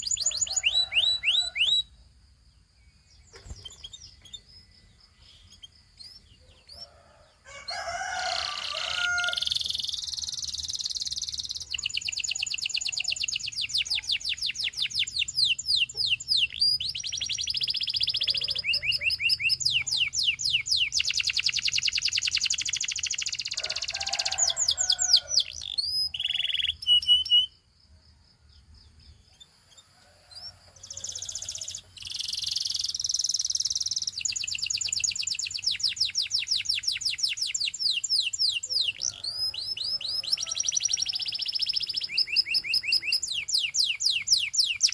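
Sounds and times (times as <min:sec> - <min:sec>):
canary singing trills: 0:00.0 - 0:02.0, 0:02.6 - 0:27.7, 0:28.6 - 0:44.9.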